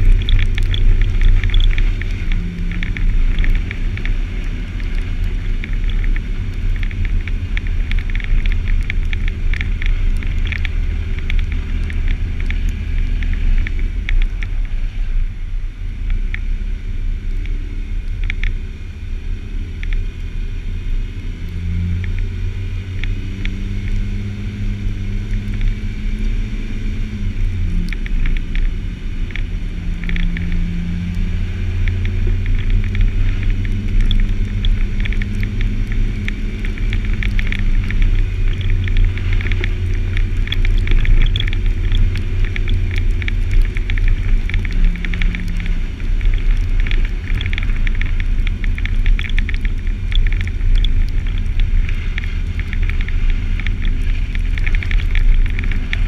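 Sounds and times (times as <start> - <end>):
car engine hum: 0.0 - 56.0
wind noise: 0.0 - 56.0.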